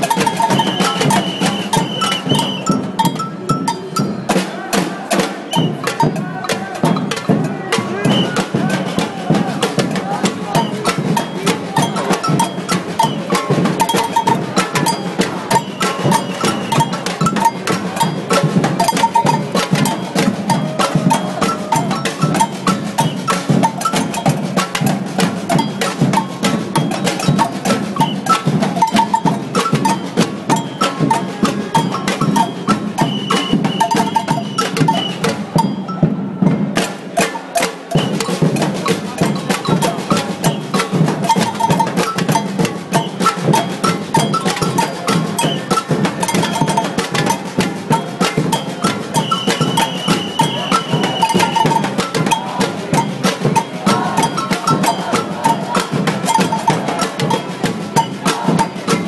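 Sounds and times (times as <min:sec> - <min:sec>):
high knocking percussion: 0:00.0 - 0:59.0
snare and bass drums: 0:00.0 - 0:59.0.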